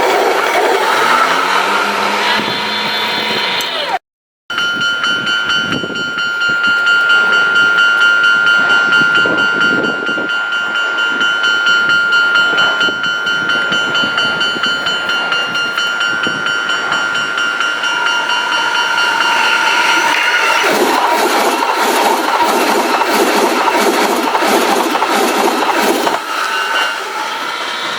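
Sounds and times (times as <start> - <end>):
railroad crossing bell ringing: 4.5 - 27.9
train passing with rumble: 4.5 - 27.9.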